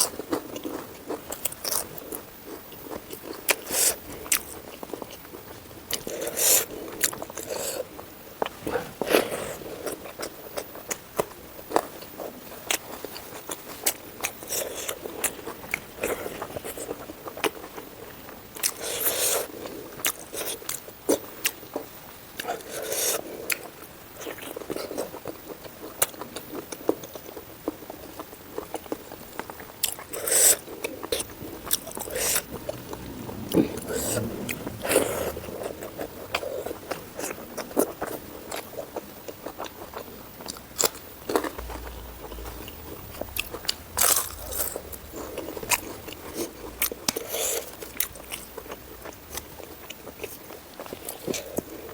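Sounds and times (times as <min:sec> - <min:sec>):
chewing and crunching: 0:00.0 - 0:51.9.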